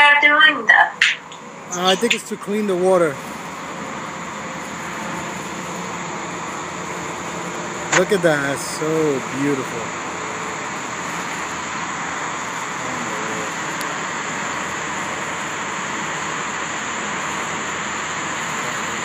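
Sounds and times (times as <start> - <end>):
water jets hissing: 1.0 - 19.0.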